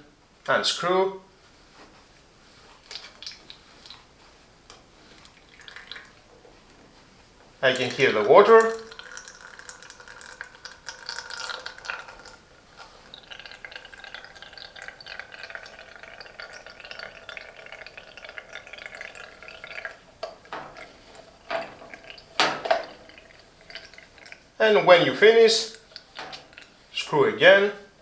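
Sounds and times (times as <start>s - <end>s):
water trickling and dripping: 2.7s - 6.8s, 7.4s - 27.6s.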